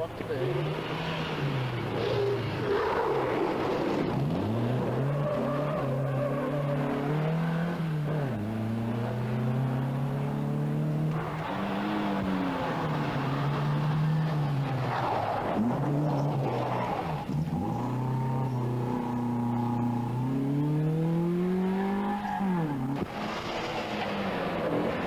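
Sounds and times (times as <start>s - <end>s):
car engine accelerating through gears: 0.0s - 25.0s.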